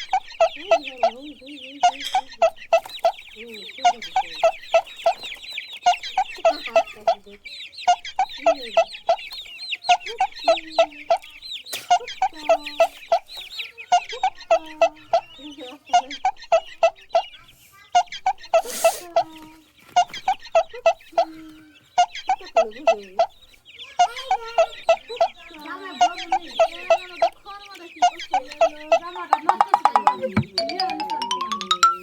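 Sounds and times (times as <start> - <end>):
chicken clucking: 0.0 - 32.0
chicks peeping: 0.0 - 32.0.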